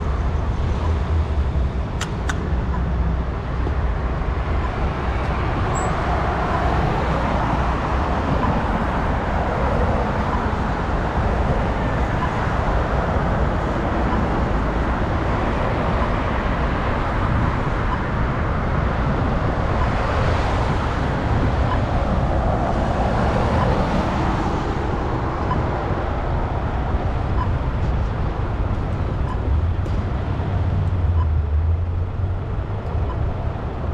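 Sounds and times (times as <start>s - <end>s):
vehicles passing: 0.0s - 33.9s
wind rumble on microphone: 0.0s - 33.9s.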